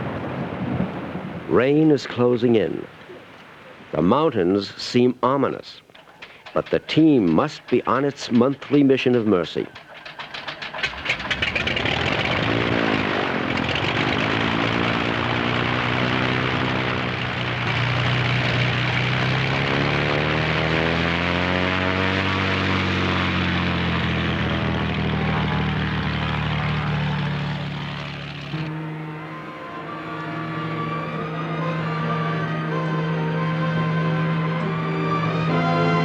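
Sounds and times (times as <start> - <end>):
propeller aircraft engine running: 5.9 - 36.0.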